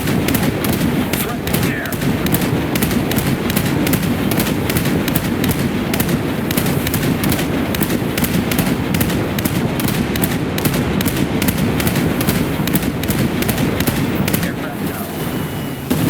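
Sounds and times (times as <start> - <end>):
sharp cracks: 0.0 - 16.0
speedboat engine rumble: 0.0 - 16.0.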